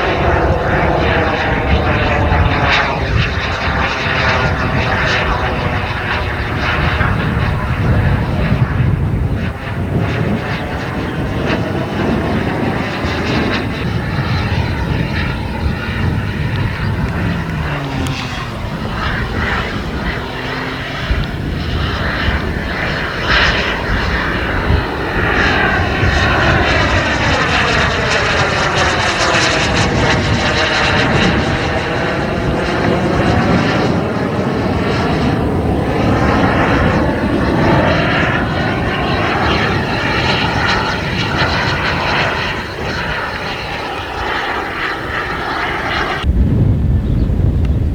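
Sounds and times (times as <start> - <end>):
model jet turbine engine: 0.0 - 46.8.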